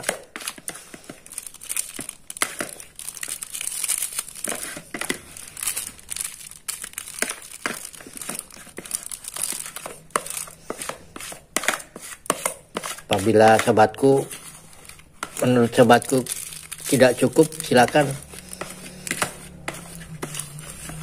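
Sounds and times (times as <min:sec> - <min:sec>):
spoon scraping plastic bowl: 0:00.0 - 0:01.3, 0:01.9 - 0:03.0, 0:04.3 - 0:06.1, 0:07.1 - 0:21.0
plastic bag crinkling: 0:00.0 - 0:10.7, 0:13.0 - 0:21.0.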